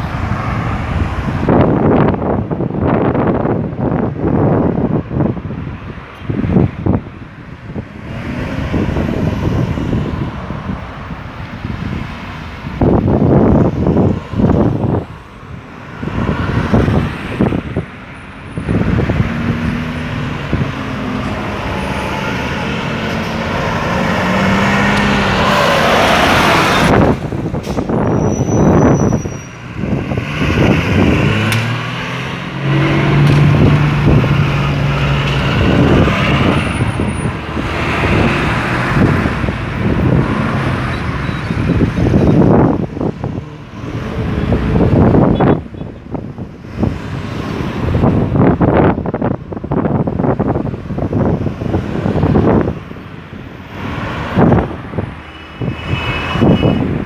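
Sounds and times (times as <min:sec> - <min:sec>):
cars and trucks driving past: 0:00.0 - 0:57.0
tyres on road: 0:00.0 - 0:57.0.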